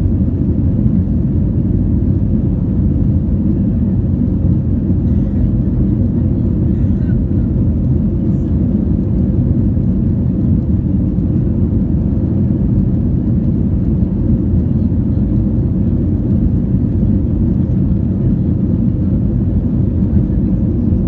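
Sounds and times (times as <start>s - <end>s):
jet engines rumbling in cabin: 0.0s - 21.0s.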